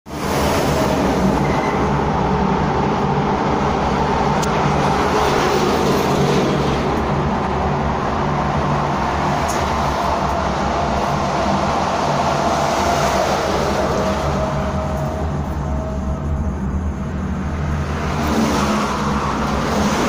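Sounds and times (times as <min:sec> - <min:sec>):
machinery humming: 0:00.1 - 0:20.0.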